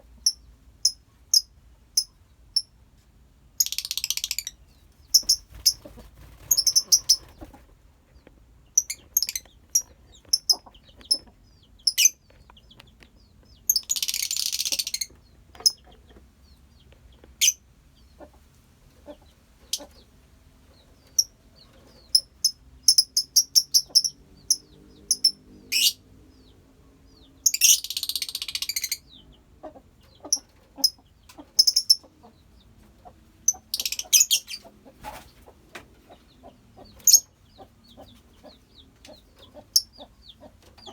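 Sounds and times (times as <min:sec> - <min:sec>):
birds chirping: 0:03.6 - 0:40.9.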